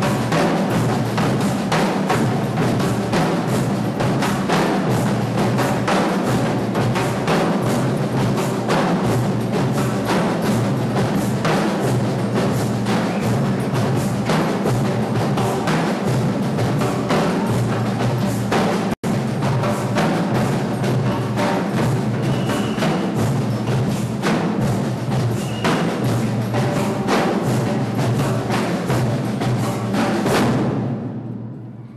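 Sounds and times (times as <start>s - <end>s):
drum group playing: 0.0s - 31.9s.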